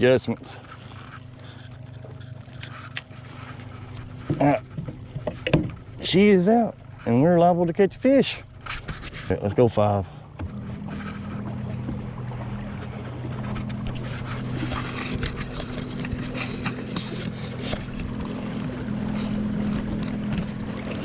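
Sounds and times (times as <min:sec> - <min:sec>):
electric trolling motor humming: 0:00.0 - 0:21.0.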